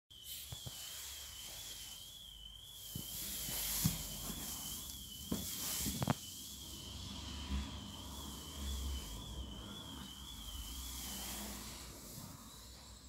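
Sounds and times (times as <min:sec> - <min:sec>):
high wavering whine: 0:00.1 - 0:13.0
projector fan hiss: 0:00.2 - 0:13.0.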